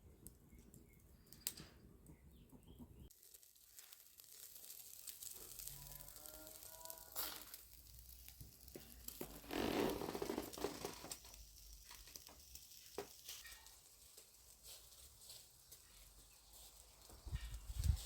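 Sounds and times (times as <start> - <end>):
wood stove crackling: 0.0 - 18.0
rustle: 3.2 - 18.0.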